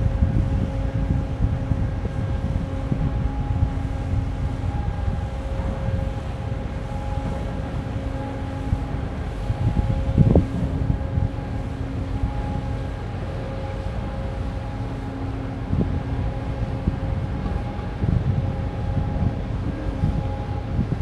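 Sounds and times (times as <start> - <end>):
ship engines humming: 0.0 - 21.0
wind buffeting microphone: 0.0 - 21.0.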